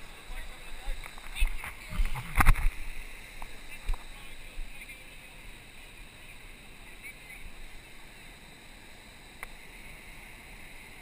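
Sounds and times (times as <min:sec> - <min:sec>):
boat on the water: 0:00.0 - 0:11.0.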